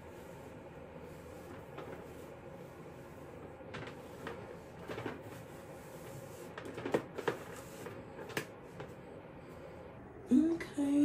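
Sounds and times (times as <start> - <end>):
brush rustling through hair: 0.0 - 9.6
faint steady hum: 0.0 - 11.0.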